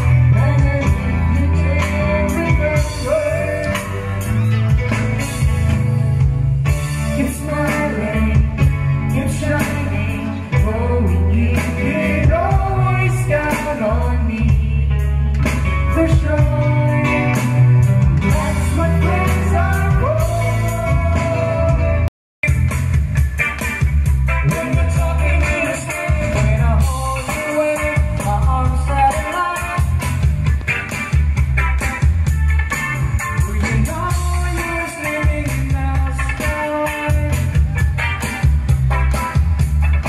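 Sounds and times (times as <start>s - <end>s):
live band playing: 0.0s - 40.0s.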